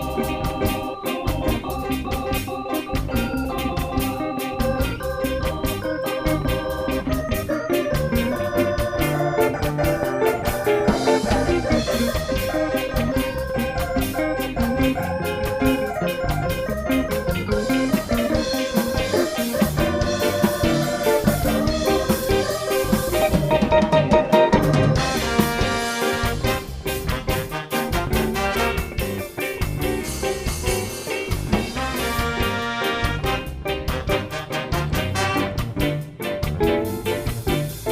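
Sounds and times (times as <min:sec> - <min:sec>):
drum beat: 0:00.0 - 0:37.9
organ riffing: 0:00.0 - 0:37.9.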